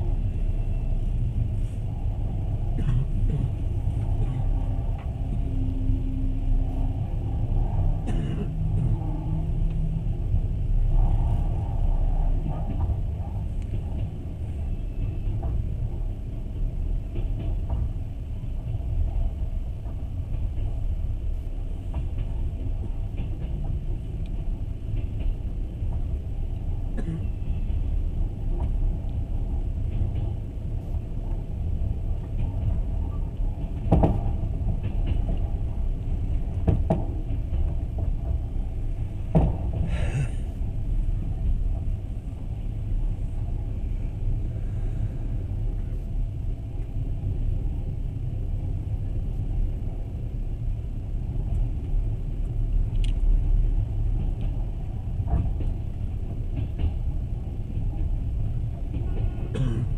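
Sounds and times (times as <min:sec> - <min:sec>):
train carriage low rumble: 0:00.0 - 0:59.9.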